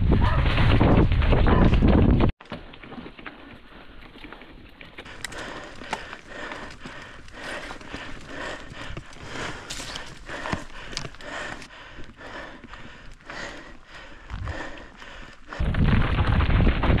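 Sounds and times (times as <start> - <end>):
bike tyres on dirt trail: 0.0 - 17.0.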